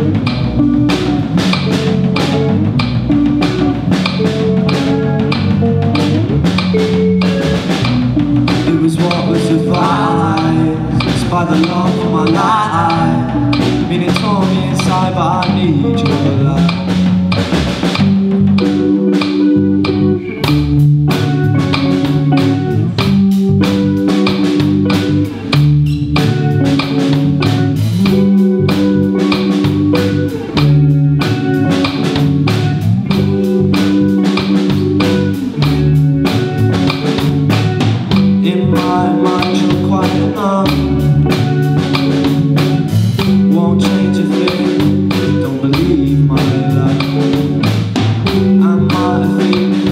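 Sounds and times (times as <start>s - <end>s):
drum kit steady beat: 0.0s - 49.9s
rock band instrumental: 0.0s - 49.9s.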